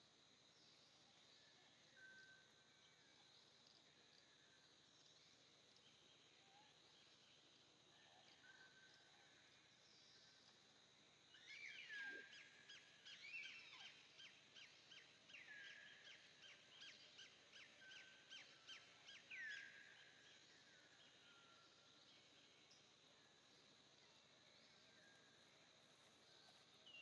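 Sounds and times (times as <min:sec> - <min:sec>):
faint birdsong: 0:00.5 - 0:27.0.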